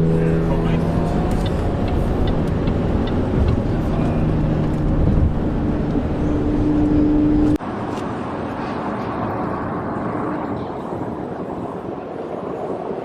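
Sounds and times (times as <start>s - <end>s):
car engine drone: 0.0s - 12.5s
road rumble: 0.0s - 13.0s.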